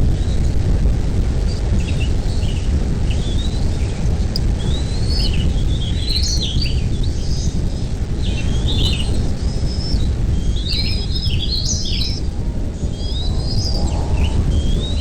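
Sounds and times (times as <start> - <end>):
steady low rumble: 0.0 - 15.0
bird chirping and warbling: 1.7 - 15.0.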